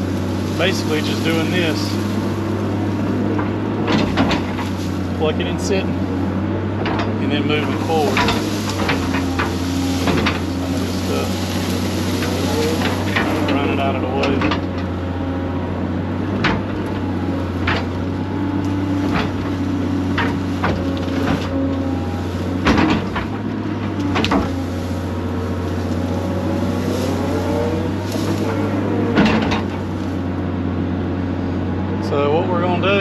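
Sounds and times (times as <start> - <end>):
excavator engine and hydraulics: 0.0 - 33.0.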